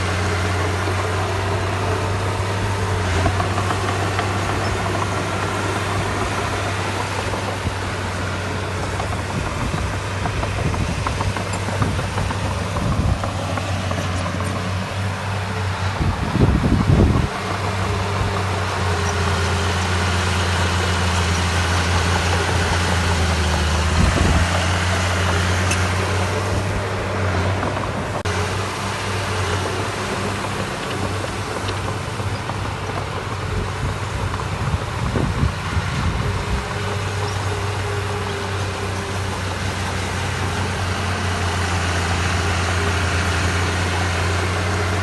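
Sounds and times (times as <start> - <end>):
heavy diesel machinery engine: 0.0 - 45.0.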